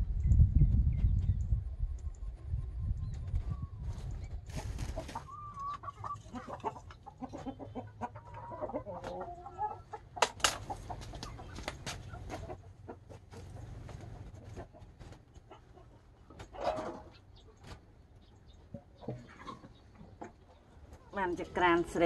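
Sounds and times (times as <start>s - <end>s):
chicken clucking and squawking: 2.3s - 22.0s.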